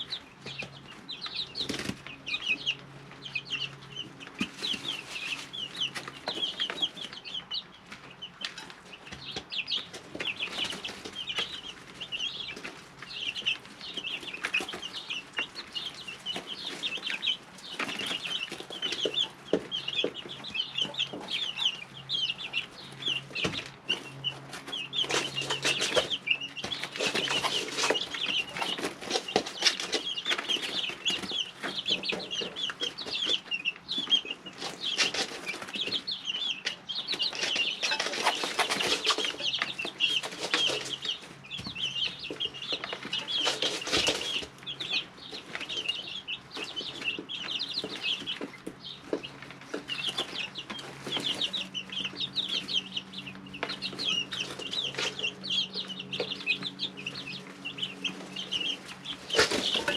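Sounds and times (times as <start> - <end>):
chicks peeping: 0.0 - 59.9
chicks rustling and tapping: 0.0 - 59.9.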